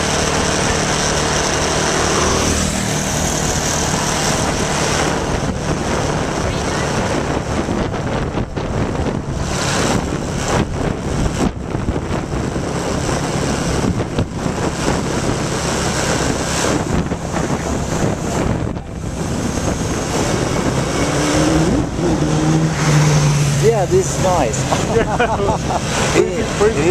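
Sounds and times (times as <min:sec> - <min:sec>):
vehicle engine running: 0:00.0 - 0:26.9
wind rushing over microphone: 0:00.0 - 0:26.9.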